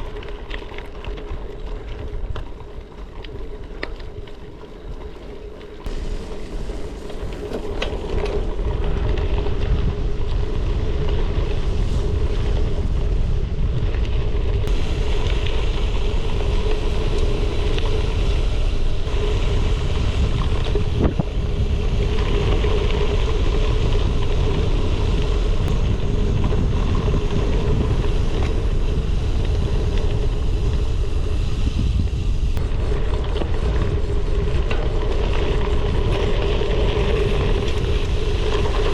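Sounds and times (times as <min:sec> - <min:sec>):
bike tyres rolling on gravel: 0:00.0 - 0:38.9
constant hum: 0:00.0 - 0:38.9
wind on camera microphone: 0:05.8 - 0:38.9.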